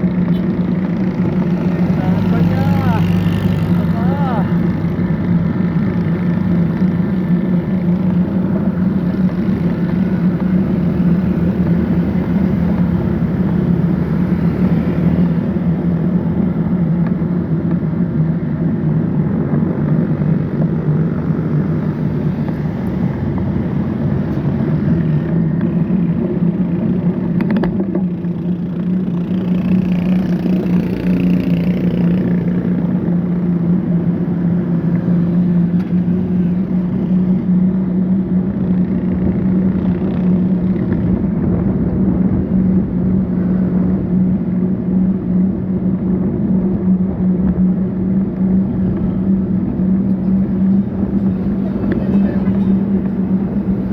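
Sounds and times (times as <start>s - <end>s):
engine low drone: 0.0s - 53.9s
road noise: 0.0s - 53.9s.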